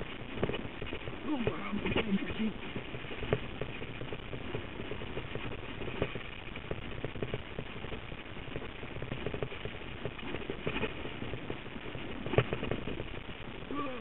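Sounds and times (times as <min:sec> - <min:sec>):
wheels knocking on stones: 0:00.0 - 0:13.4
bike tyres rumbling on rocks: 0:00.0 - 0:14.0
wind: 0:00.0 - 0:14.0.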